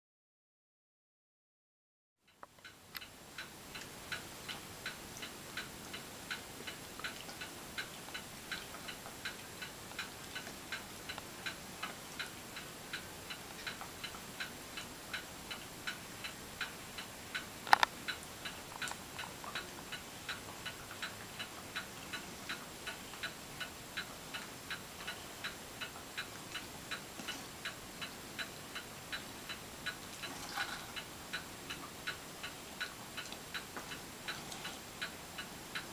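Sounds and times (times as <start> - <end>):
clock ticking: 2.3 - 35.9.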